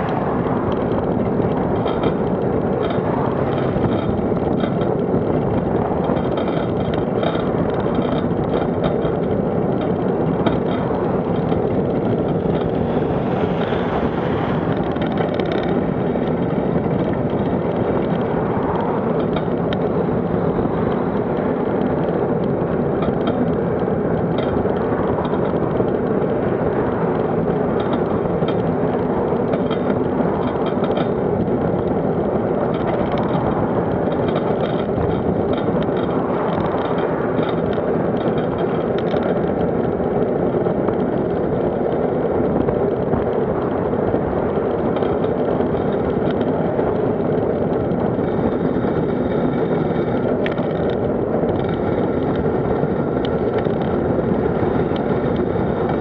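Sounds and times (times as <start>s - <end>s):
rushing road noise: 0.0s - 56.0s.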